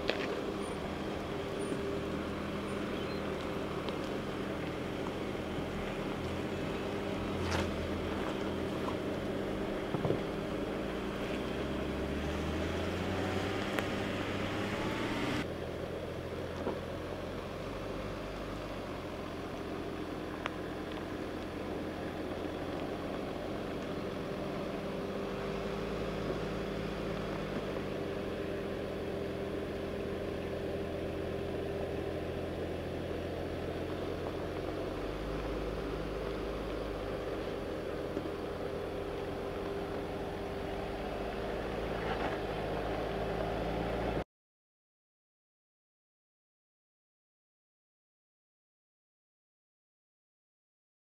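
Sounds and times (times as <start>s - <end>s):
suv engine running at low revs: 0.0s - 44.2s.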